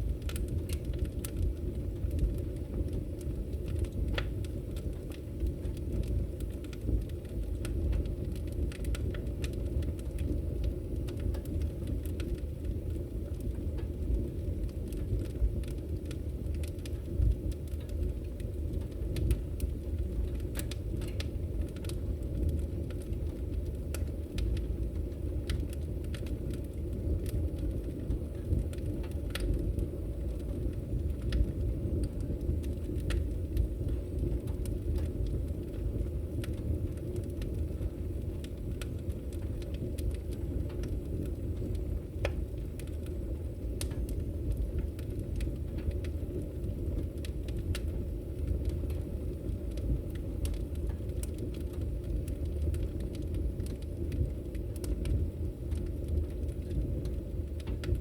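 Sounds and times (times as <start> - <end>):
burning wood crackling and popping: 0.0 - 58.0
fire rumbling: 0.0 - 58.0.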